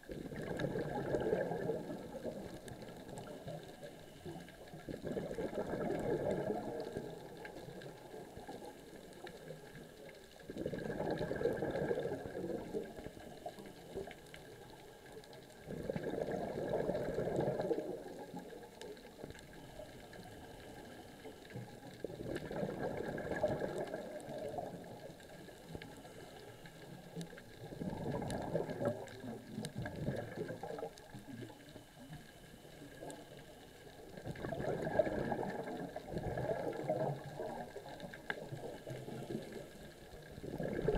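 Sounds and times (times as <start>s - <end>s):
underwater exhalation bubbling: 0.0s - 32.2s, 32.8s - 40.9s.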